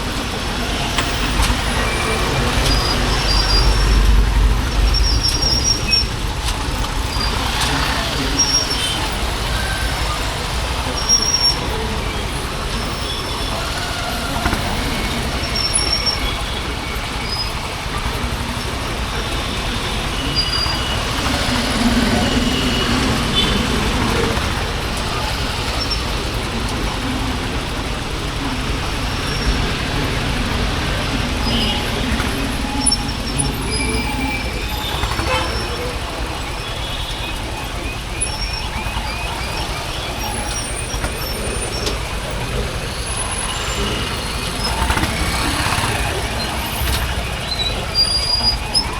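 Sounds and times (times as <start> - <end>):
motorcycle engine running: 0.0 - 48.9
road traffic: 0.0 - 48.9.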